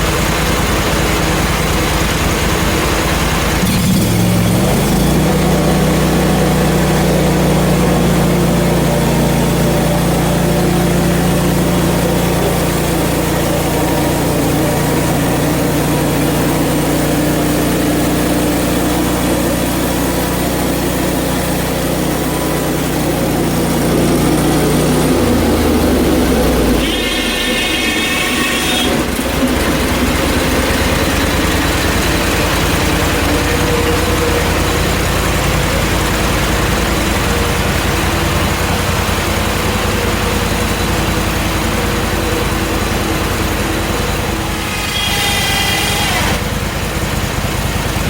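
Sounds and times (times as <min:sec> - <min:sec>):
band saw cutting log: 0:00.0 - 0:48.0
gasoline engine running: 0:00.0 - 0:48.0.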